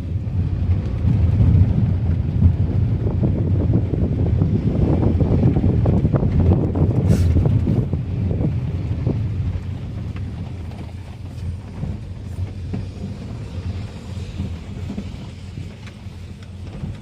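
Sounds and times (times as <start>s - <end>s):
car driving rumble: 0.0s - 17.0s
wind buffeting microphone: 0.0s - 17.0s.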